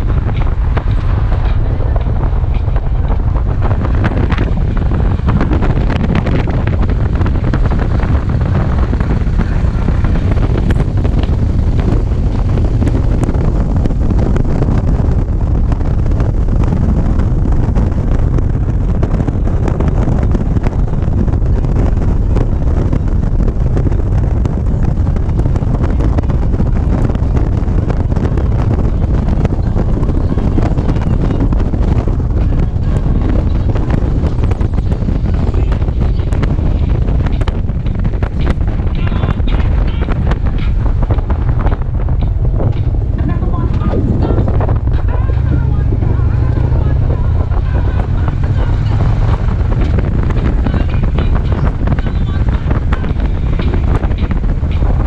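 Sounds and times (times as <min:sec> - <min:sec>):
motorcycle engine: 0:00.0 - 0:55.0
road noise: 0:00.0 - 0:55.0
wind buffeting microphone: 0:00.0 - 0:55.0.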